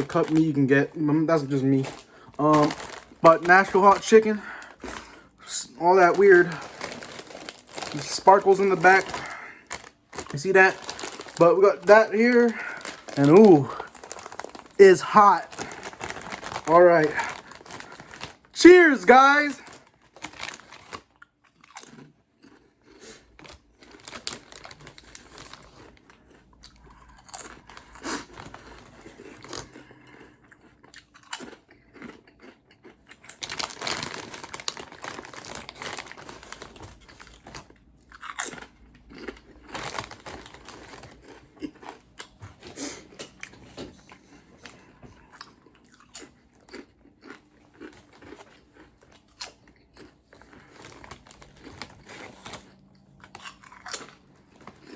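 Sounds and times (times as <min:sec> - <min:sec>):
person crunching chips: 0:00.0 - 0:54.9.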